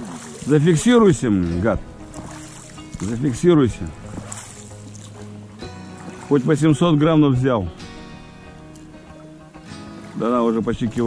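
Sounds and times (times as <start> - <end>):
background music with held notes: 0.0 - 11.0
inflatable boat on water: 0.0 - 11.0.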